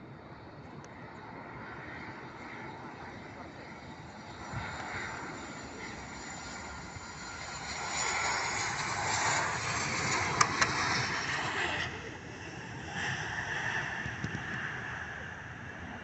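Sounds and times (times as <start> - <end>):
airliner engine noise: 0.0 - 16.0.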